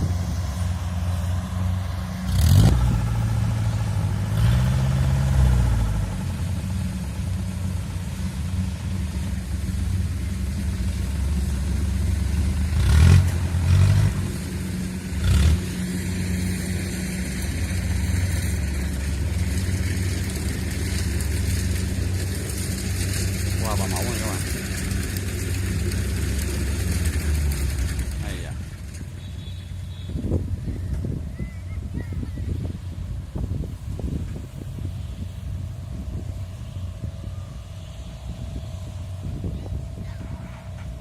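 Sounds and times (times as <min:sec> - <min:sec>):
diesel engine low rumble: 0:00.0 - 0:41.0.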